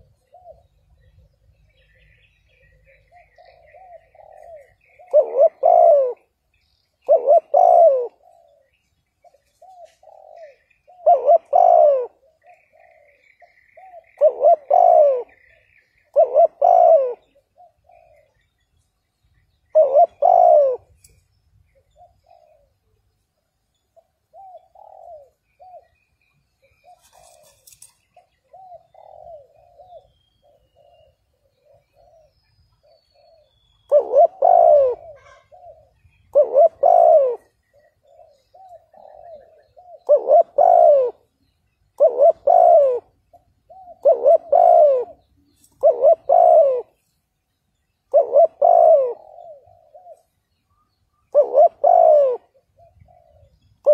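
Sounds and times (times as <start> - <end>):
dove cooing: 0.0 - 18.7, 19.4 - 23.1, 24.0 - 47.1, 48.0 - 53.9.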